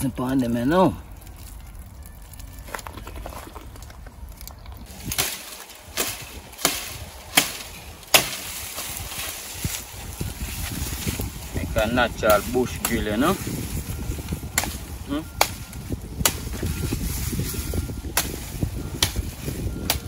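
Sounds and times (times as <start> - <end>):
branches cracking: 0.0 - 20.0.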